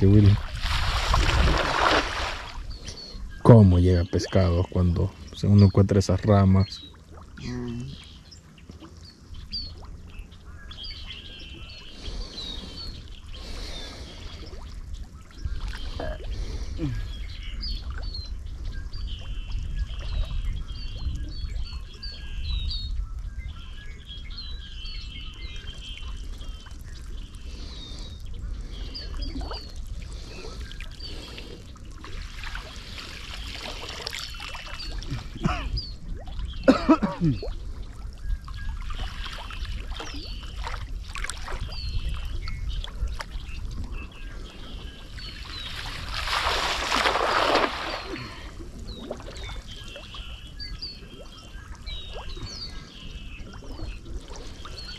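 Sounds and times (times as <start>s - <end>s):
water trickling and splashing: 0.0s - 22.1s, 25.1s - 54.9s
small birds chirping: 1.7s - 54.9s.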